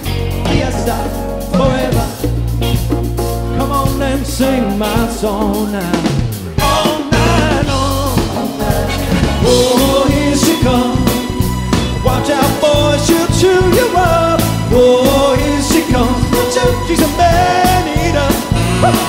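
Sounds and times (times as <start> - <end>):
man singing: 0.0 - 2.5, 3.4 - 19.0
live soft rock band: 0.0 - 19.0.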